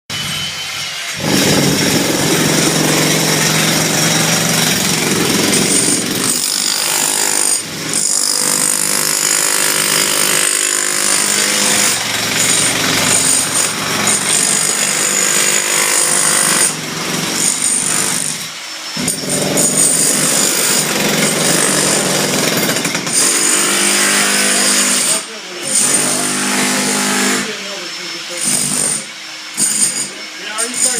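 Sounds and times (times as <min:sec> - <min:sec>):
loud power tool running: 0:00.1 - 0:30.9.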